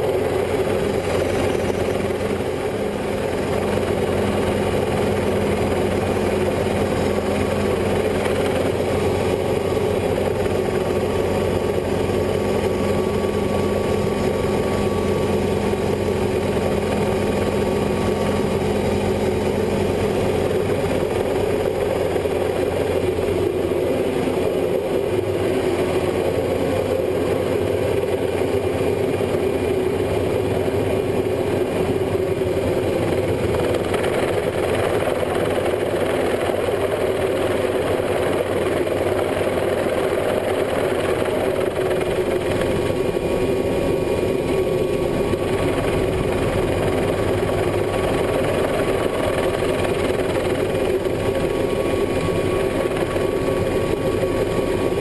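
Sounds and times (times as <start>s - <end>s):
helicopter turbine and rotor running: 0.0s - 55.0s.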